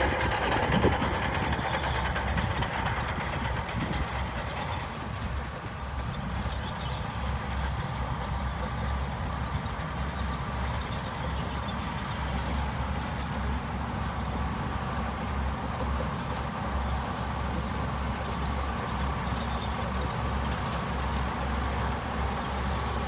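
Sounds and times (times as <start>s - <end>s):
diesel engine throbbing: 0.0s - 23.0s.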